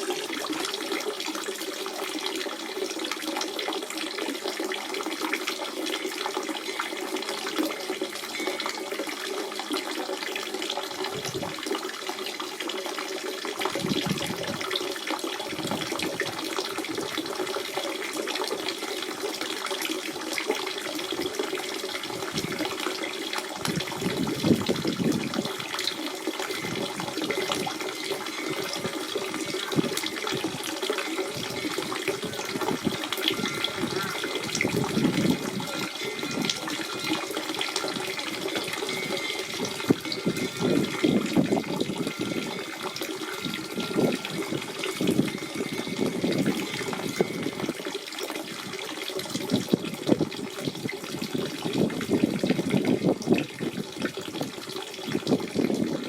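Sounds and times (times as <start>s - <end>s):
spring water babbling: 0.0s - 11.9s, 13.2s - 51.1s.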